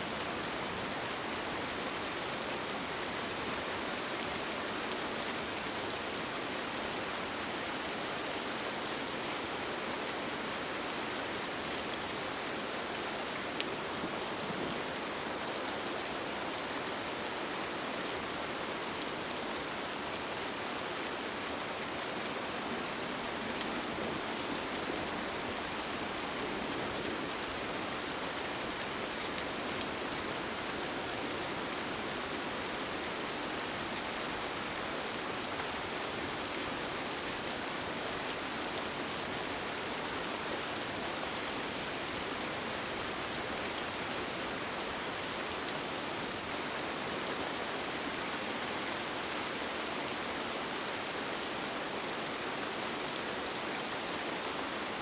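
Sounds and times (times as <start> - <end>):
rain on a tent: 0.0 - 55.0.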